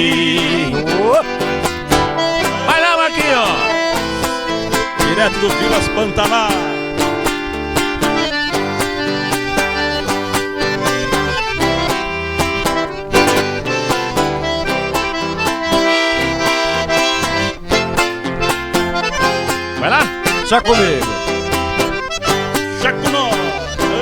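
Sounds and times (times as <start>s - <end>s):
accordion solo: 0.0s - 24.0s
bass line: 0.0s - 24.0s
strummed acoustic guitar: 0.0s - 24.0s.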